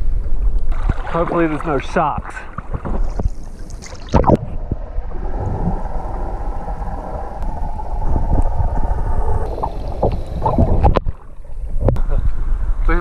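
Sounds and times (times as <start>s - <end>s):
muffled underwater rushing: 0.0s - 13.0s.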